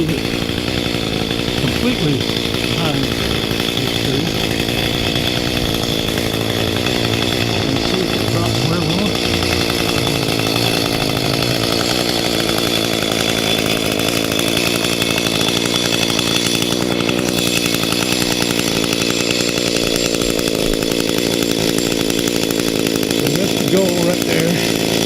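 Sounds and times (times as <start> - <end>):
chainsaw running: 0.0 - 25.0.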